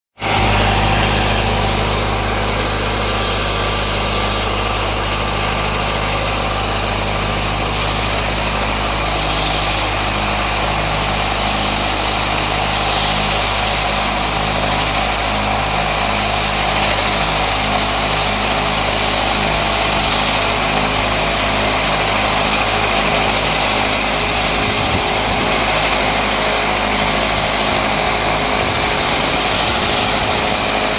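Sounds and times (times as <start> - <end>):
machine high hiss: 0.2 - 30.9
tractor engine hum: 0.2 - 30.9.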